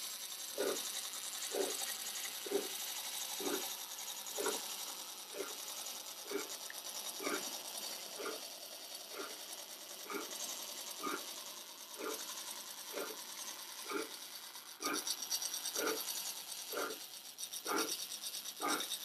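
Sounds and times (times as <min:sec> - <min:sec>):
model train mechanical whir: 0:00.0 - 0:19.0.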